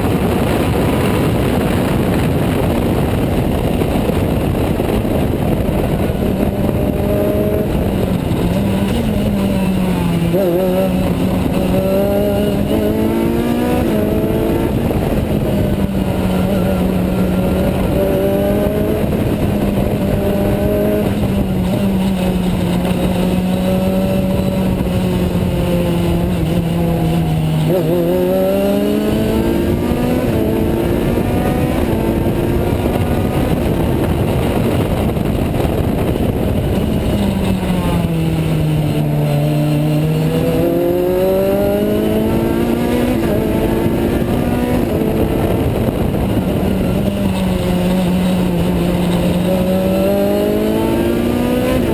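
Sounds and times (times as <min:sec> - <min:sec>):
race car engine under load: 0:00.0 - 0:51.9
wind noise: 0:00.0 - 0:51.9.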